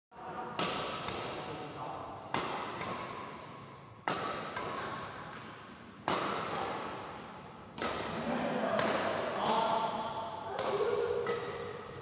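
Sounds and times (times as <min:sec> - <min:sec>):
hall echo: 0:00.1 - 0:12.0
racket hitting shuttlecock: 0:00.5 - 0:12.0.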